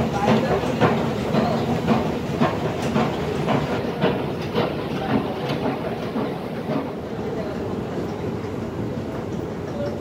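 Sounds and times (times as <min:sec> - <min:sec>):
rail clicks: 0:00.0 - 0:10.0
train wheels rumbling on track: 0:00.0 - 0:10.0.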